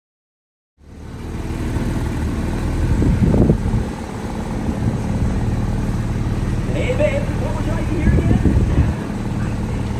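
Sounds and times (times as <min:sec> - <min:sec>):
vehicle engine running: 0:00.8 - 0:09.9.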